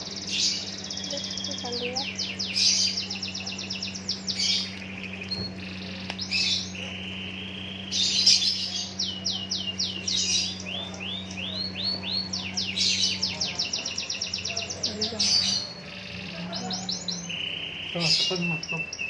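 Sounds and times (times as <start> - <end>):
songbird trilling and chirping: 0.0 - 19.0.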